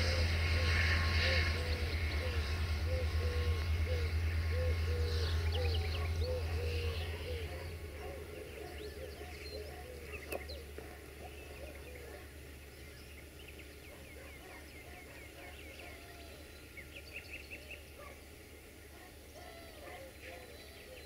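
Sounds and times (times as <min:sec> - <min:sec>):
diesel locomotive rumble: 0:00.0 - 0:17.3
small birds chirping: 0:00.0 - 0:21.0.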